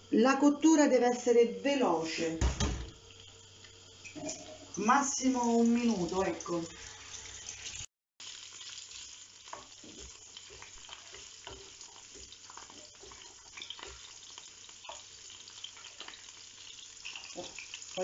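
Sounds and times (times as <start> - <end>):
prawns sizzling in oil: 0.0 - 18.0.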